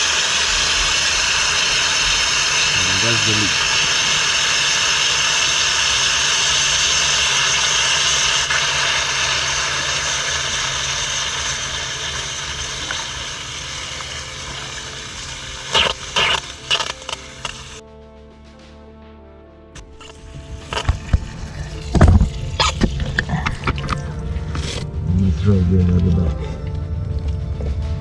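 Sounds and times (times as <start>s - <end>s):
water spraying with loud hiss: 0.0s - 17.8s, 19.8s - 25.0s.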